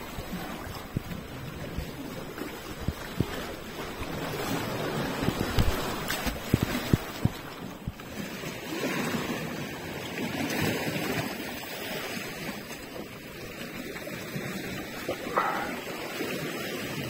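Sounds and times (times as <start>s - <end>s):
seawater lapping: 0.0s - 17.0s.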